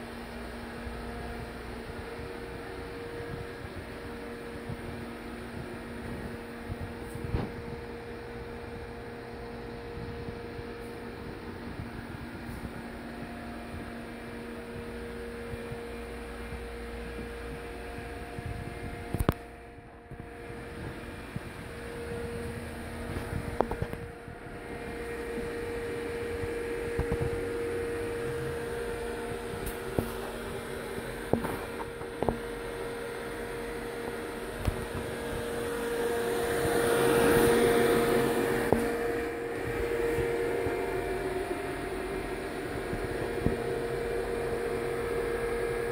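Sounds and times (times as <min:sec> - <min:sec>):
machine and fan hum: 0:00.0 - 0:45.9.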